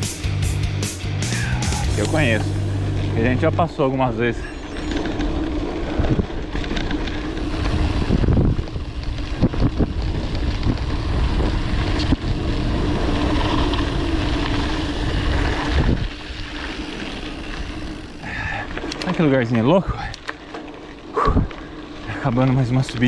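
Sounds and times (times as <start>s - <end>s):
steady low hum: 0.0s - 19.0s
wind buffeting microphone: 1.4s - 23.0s.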